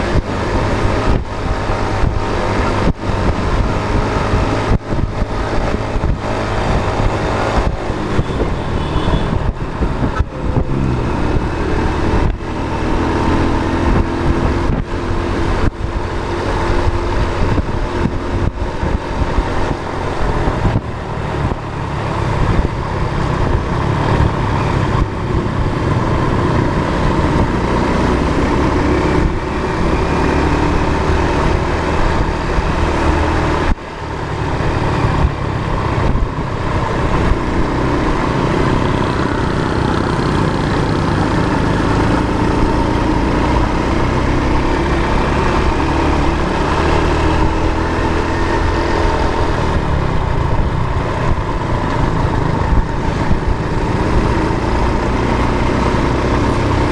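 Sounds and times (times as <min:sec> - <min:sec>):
road noise: 0:00.0 - 0:56.9
vehicle engine running: 0:00.0 - 0:56.9.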